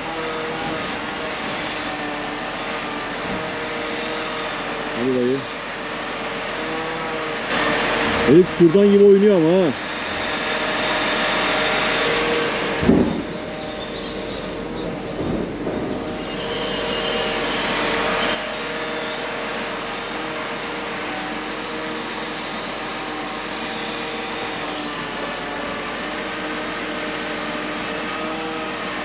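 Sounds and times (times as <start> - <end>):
log-loading machine running: 0.0 - 29.0.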